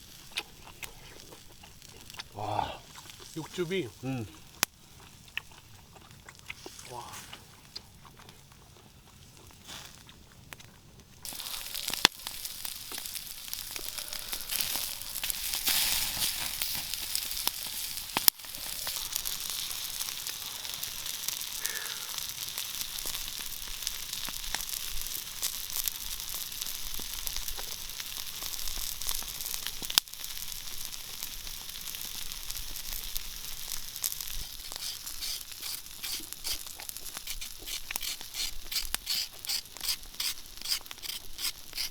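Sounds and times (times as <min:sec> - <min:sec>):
meat frying and sizzling: 0:00.0 - 0:41.9.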